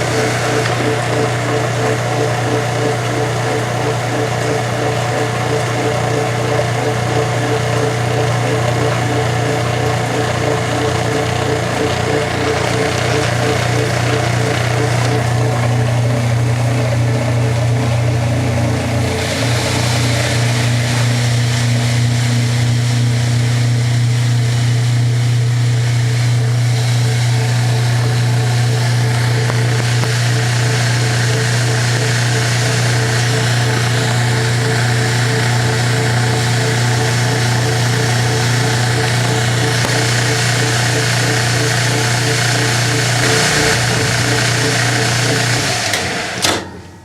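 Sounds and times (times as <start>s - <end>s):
washing machine motor humming: 0.0s - 47.0s.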